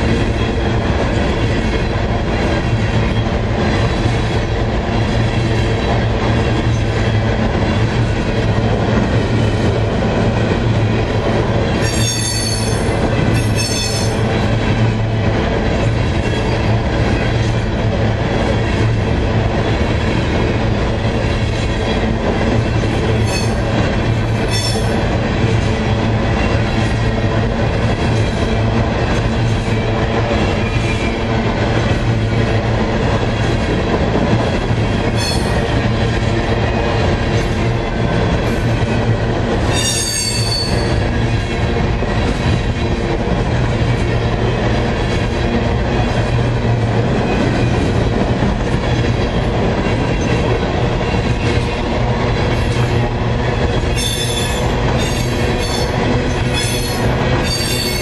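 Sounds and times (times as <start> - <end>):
freight train wheels rolling on rail: 0.0 - 58.0.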